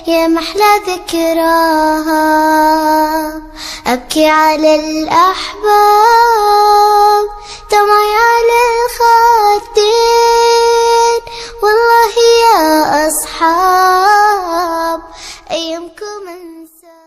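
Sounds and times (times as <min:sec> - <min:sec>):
solo voice singing unaccompanied: 0:00.0 - 0:17.0.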